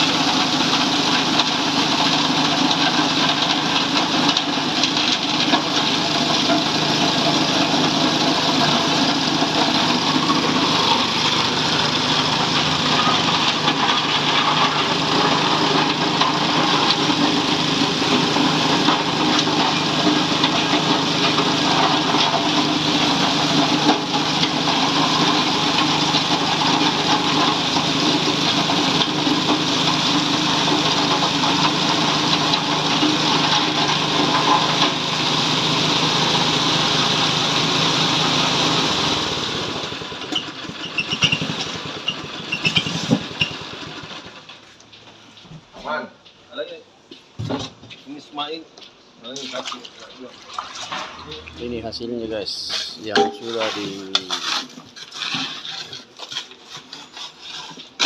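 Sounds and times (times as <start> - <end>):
ice crushing machine grinding: 0.0 - 44.9, 50.8 - 58.0.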